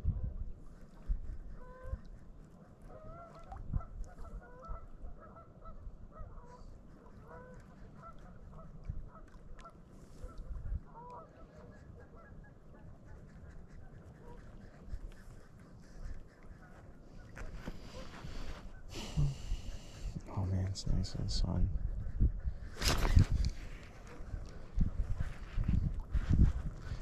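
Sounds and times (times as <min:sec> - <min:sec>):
low wind rumble: 0:00.0 - 0:27.0.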